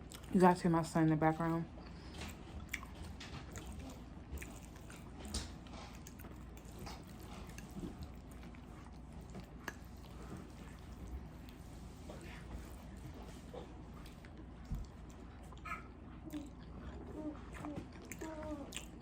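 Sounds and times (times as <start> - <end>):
person chewing food: 0.0 - 0.4, 1.7 - 19.0.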